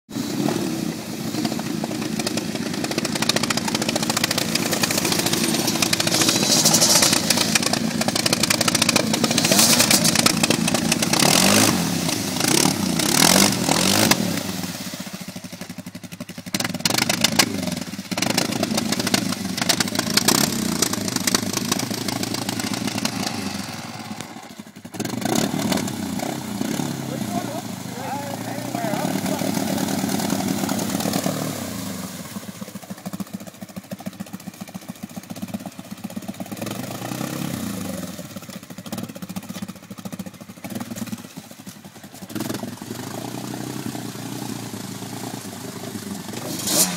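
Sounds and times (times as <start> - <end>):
atv engine revving: 0.1 - 46.9
wheels spinning in mud: 0.2 - 46.9.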